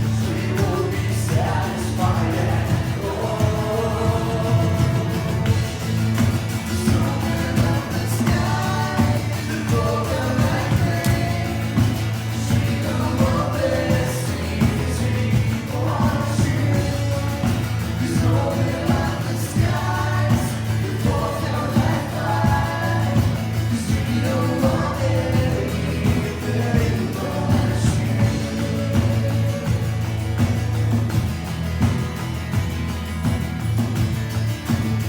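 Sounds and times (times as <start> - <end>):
band with bass and drums: 0.0 - 35.0
voices singing: 0.0 - 35.0.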